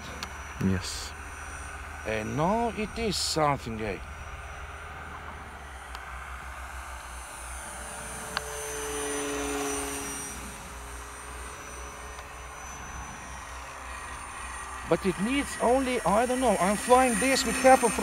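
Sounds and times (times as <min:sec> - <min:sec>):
model plane electric motor whine: 0:00.0 - 0:18.0.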